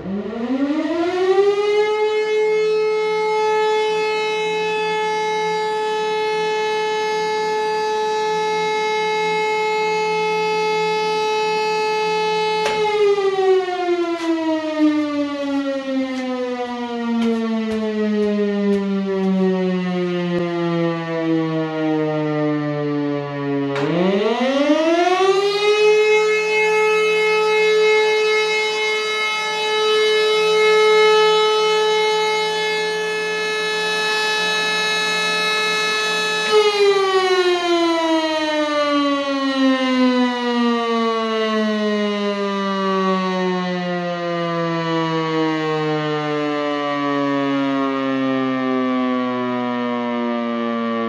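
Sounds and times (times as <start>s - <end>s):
electric motor siren wailing: 0.0s - 51.0s.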